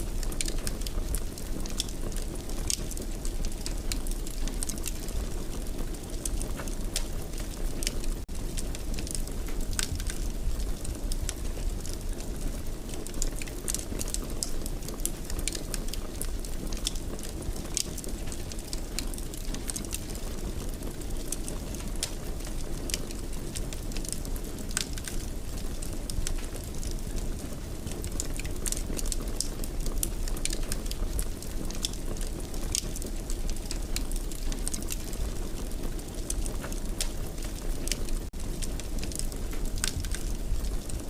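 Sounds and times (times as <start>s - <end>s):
low rumble of flames: 0.0s - 41.0s
wood fire crackling: 0.0s - 41.0s.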